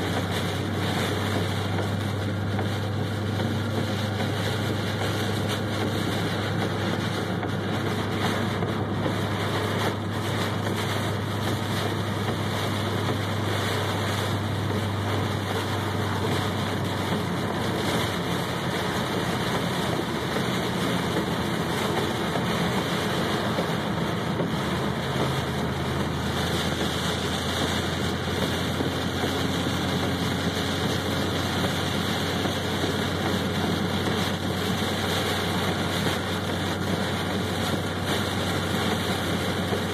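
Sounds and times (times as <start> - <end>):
car engine humming: 0.0 - 39.9
rain and road spray hissing: 0.0 - 39.9.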